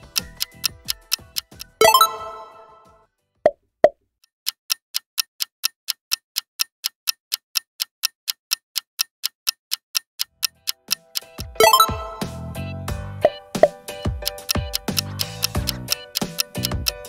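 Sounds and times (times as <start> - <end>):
clock-like ticking: 0.0 - 2.6, 4.2 - 12.5, 13.2 - 17.0.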